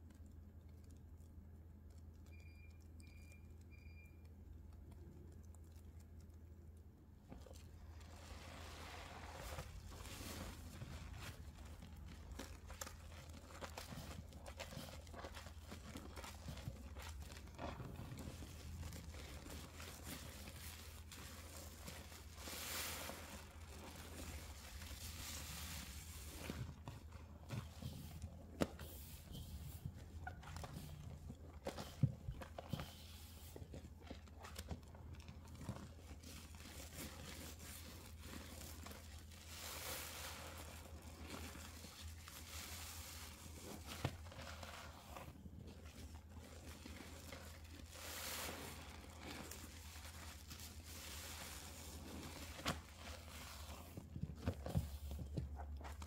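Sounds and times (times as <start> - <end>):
wet sponge squelching: 4.6 - 56.0.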